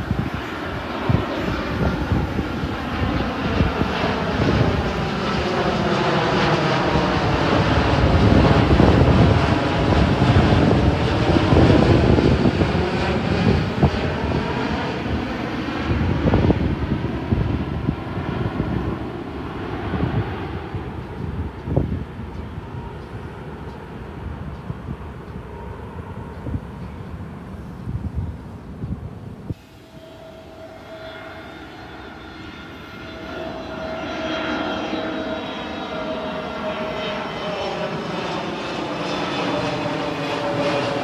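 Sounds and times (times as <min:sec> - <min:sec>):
jet airliner engine roar: 0:00.0 - 0:41.0.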